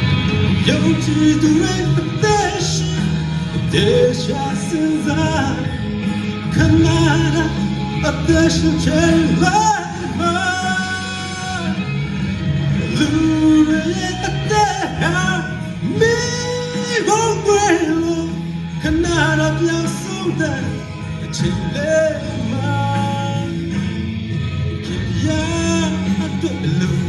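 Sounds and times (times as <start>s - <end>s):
accompanying music with low bass: 0.0s - 27.0s
man singing into microphone: 0.6s - 27.0s.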